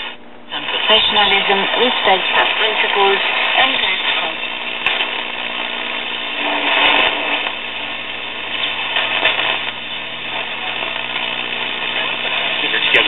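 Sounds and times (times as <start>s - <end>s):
shortwave radio static: 0.0s - 13.0s
steady low hum: 0.0s - 13.0s.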